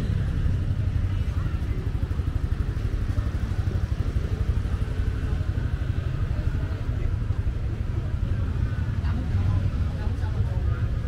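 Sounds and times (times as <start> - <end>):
motorbike traffic rumble: 0.0 - 11.0.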